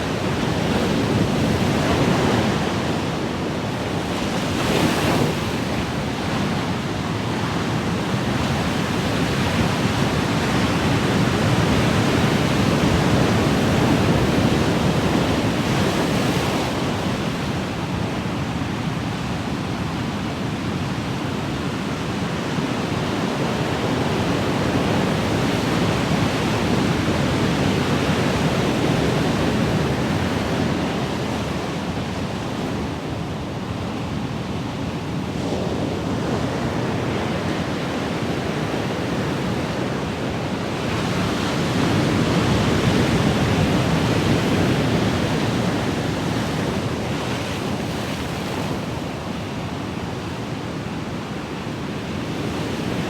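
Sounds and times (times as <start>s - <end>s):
ocean waves washing on shore: 0.0s - 53.0s.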